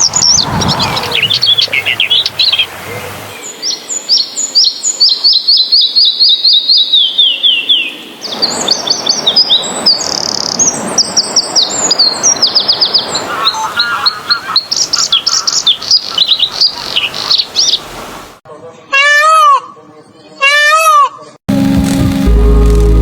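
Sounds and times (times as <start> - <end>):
songbird singing: 0.0 - 21.4.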